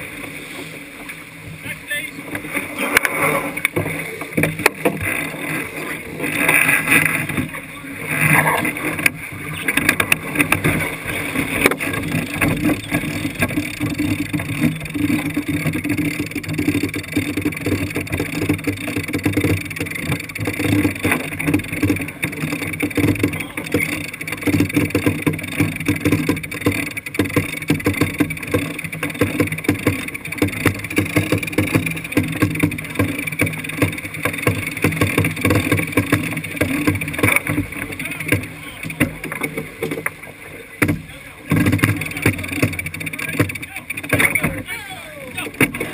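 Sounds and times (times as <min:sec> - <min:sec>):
hull rushing through water: 0:00.0 - 0:45.9
water slapping against bow: 0:00.0 - 0:45.9.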